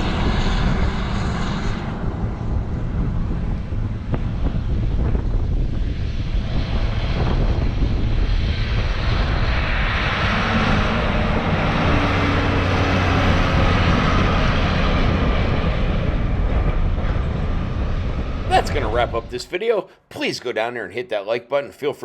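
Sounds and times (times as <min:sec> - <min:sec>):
wind noise: 0:00.0 - 0:19.4.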